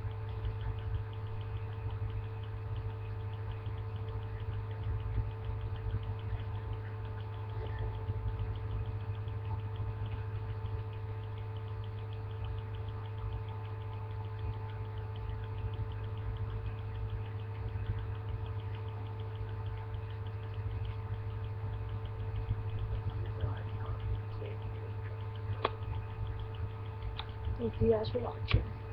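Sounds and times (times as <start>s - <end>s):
faint high ticking: 0.0s - 28.9s
low electrical hum: 0.0s - 28.9s.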